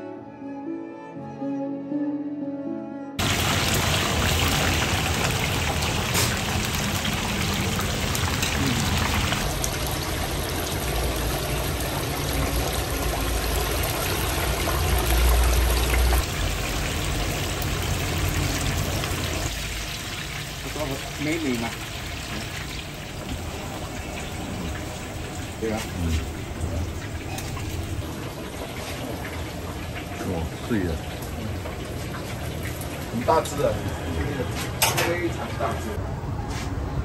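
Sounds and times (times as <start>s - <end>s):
hot oil sizzling and bubbling: 3.2s - 36.0s.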